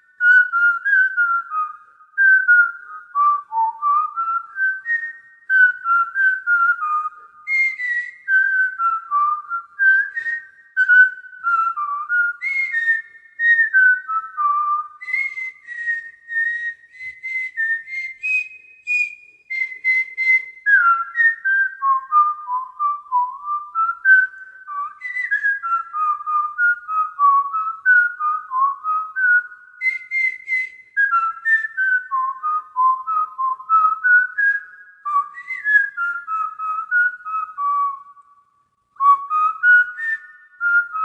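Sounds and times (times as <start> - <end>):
person whistling a tune: 0.0 - 38.4, 39.0 - 41.0.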